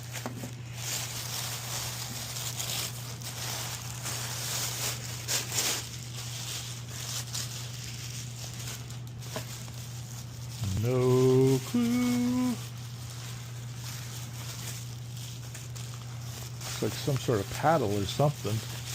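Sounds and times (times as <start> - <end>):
wrapping rustling and crinkling: 0.0 - 18.9
wrapping tearing: 0.0 - 18.9.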